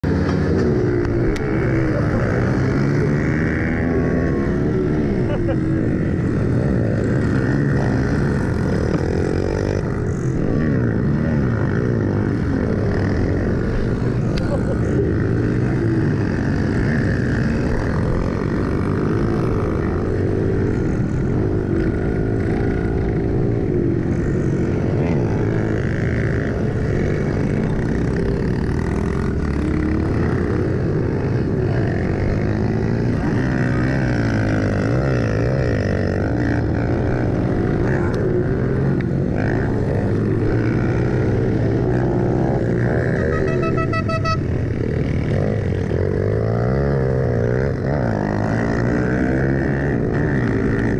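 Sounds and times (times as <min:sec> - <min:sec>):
bike engine high whine: 0:00.0 - 0:50.9
pit bike engines revving: 0:00.0 - 0:50.9.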